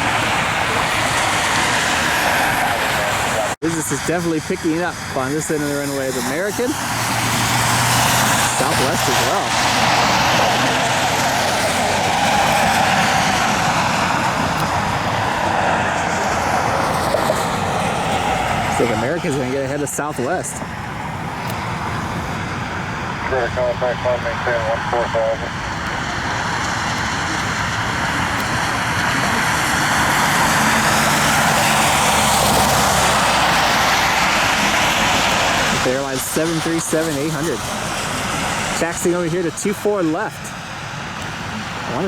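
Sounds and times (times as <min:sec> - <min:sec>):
jet engines taxiing: 0:00.0 - 0:42.0.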